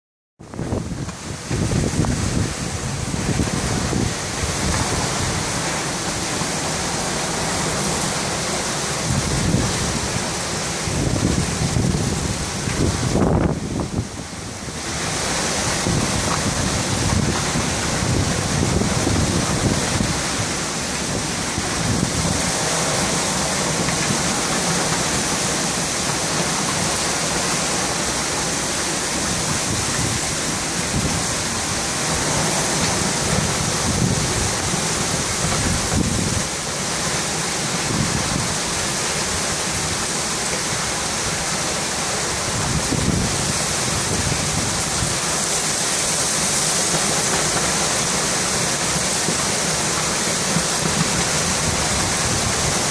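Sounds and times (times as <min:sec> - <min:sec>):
low wind gusts: 0:00.4 - 0:52.9
wind and heavy rain rushing: 0:00.4 - 0:52.9.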